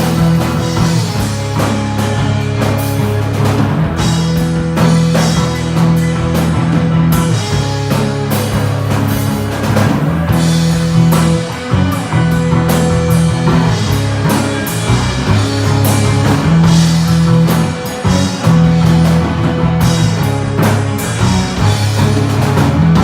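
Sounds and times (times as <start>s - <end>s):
bass guitar: 0.0s - 23.0s
drum hits and cymbals: 0.0s - 23.0s
electric guitar: 0.0s - 23.0s.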